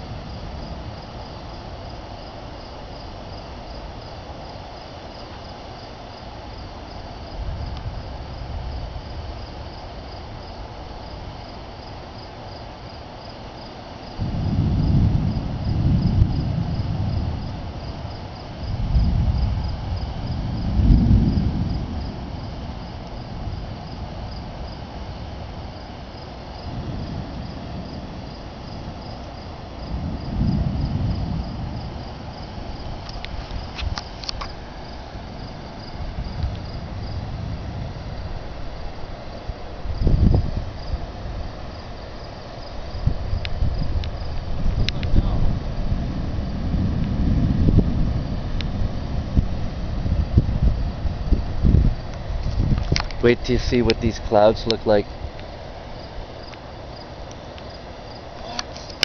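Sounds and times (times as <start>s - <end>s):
deep thunder rumbles: 0.0s - 4.6s, 6.6s - 13.0s, 14.1s - 56.6s
crickets chirping: 0.0s - 59.0s.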